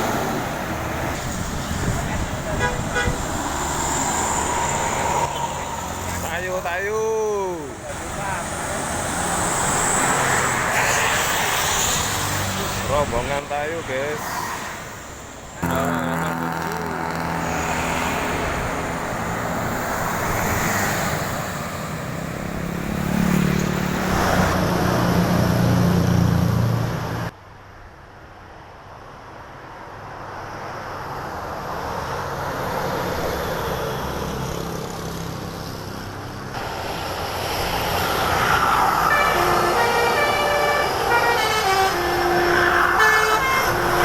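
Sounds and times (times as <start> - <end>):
heavy vehicle engine: 0.0 - 27.3, 31.9 - 44.0
passing traffic: 0.0 - 44.0.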